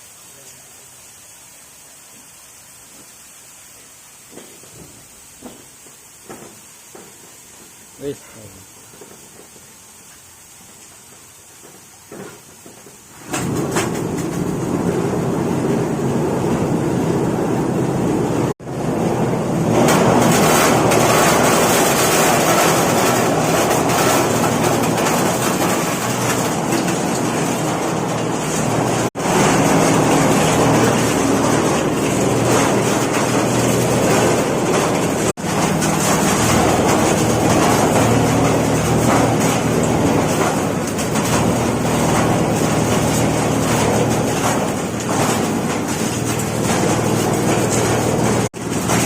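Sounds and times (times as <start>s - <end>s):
compost sieving machine rumbling: 2.3s - 49.0s.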